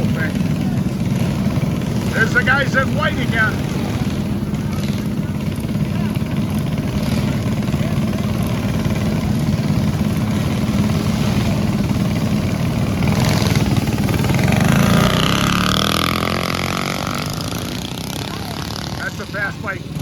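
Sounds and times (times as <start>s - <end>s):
bike passing close by: 0.0s - 20.0s
mini bike engines running: 0.0s - 20.0s.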